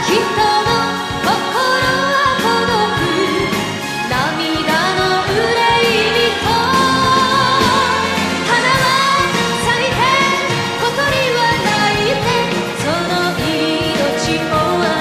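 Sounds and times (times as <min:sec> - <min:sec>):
instrumental pop ballad: 0:00.0 - 0:15.0.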